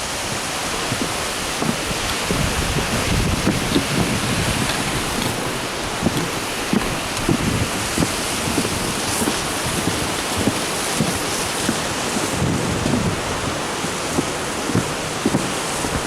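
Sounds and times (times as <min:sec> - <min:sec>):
strong wind rushing: 0:00.0 - 0:16.0
wind buffeting microphone: 0:00.0 - 0:16.0.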